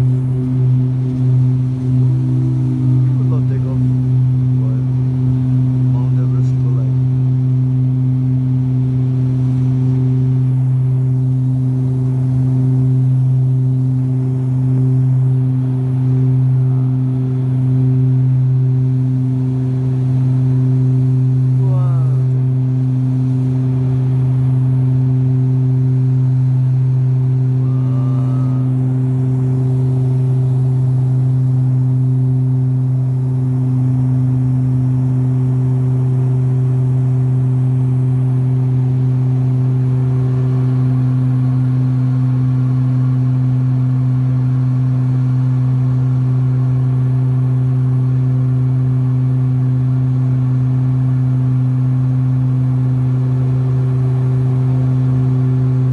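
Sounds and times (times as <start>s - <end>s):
aircraft engines droning in cabin: 0.0s - 55.9s.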